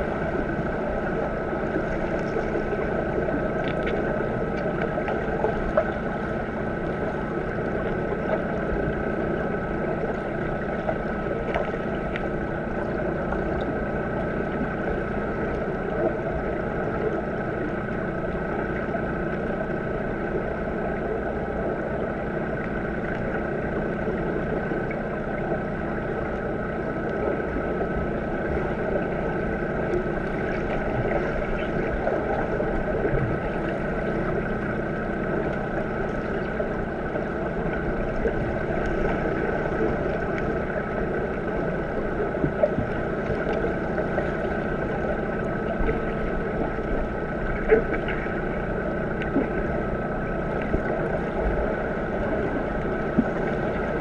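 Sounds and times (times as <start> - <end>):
constant hum: 0.0 - 54.0
muffled underwater churning: 0.0 - 54.0.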